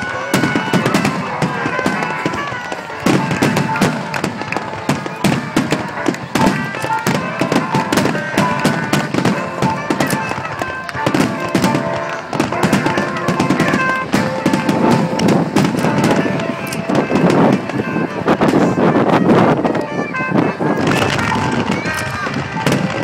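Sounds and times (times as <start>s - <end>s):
fireworks bursting and crackling: 0.0s - 23.0s
music playing: 0.0s - 23.0s.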